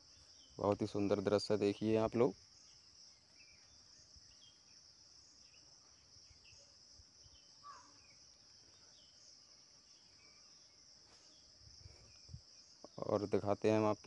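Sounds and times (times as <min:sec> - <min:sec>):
faint chirps: 0:00.0 - 0:14.0
insect chorus drone: 0:00.0 - 0:14.0.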